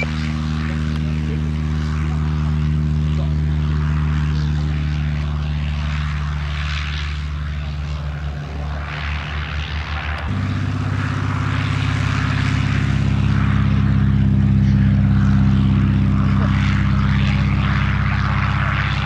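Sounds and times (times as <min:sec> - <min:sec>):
propeller aircraft engine: 0:00.0 - 0:19.0.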